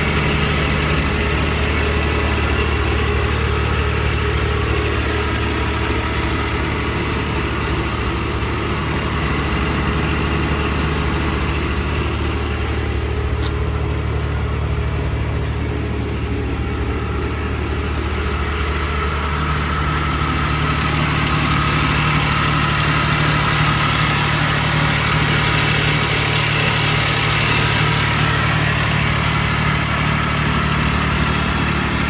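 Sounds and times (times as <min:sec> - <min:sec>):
road roller engine idling: 0:00.0 - 0:32.0.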